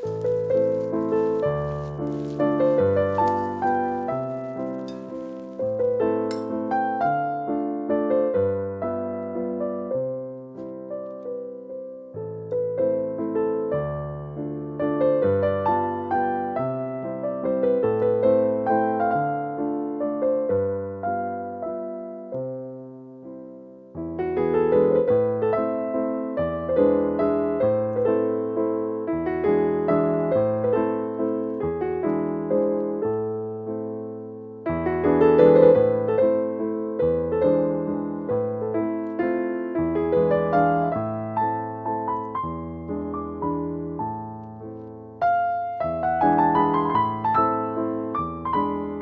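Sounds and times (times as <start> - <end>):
piano music: 0.0 - 49.0.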